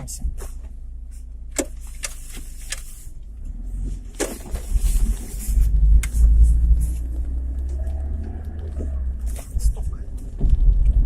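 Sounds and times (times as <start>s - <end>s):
car engine rumble from inside: 0.0s - 11.0s.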